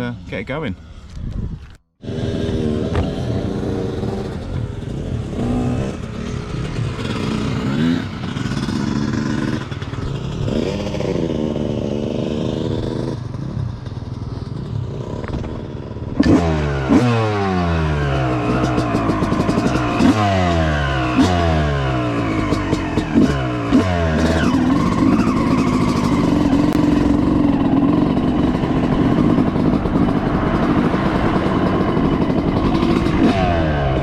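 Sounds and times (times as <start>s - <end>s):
two-stroke engine revving: 2.0s - 13.5s, 14.4s - 34.0s.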